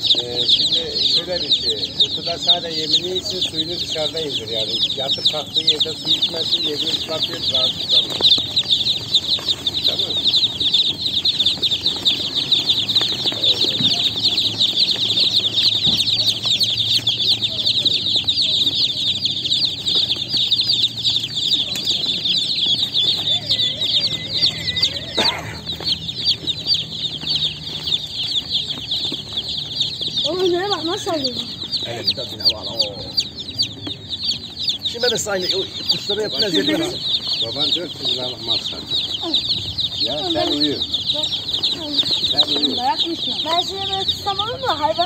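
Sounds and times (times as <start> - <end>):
chicks peeping: 0.0 - 45.0.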